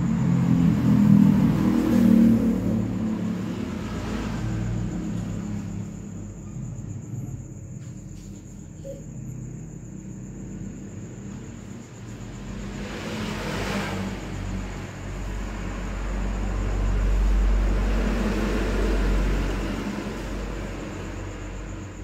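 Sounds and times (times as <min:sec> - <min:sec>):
vehicle passing by: 0:00.0 - 0:08.4, 0:09.9 - 0:22.0.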